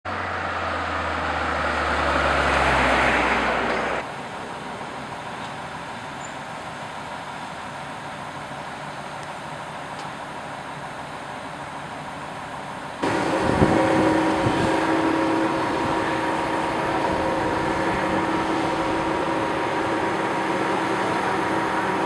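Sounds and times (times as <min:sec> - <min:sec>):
vehicle engine hum: 0:00.0 - 0:22.0
outdoor background noise: 0:00.1 - 0:22.0.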